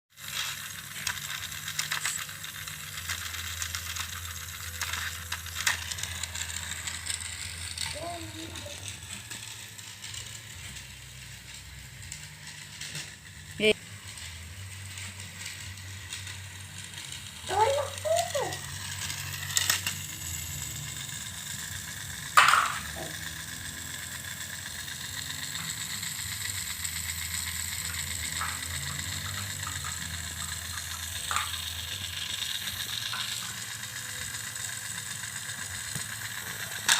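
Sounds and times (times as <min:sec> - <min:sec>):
toy train motor whirring: 0:00.1 - 0:36.9.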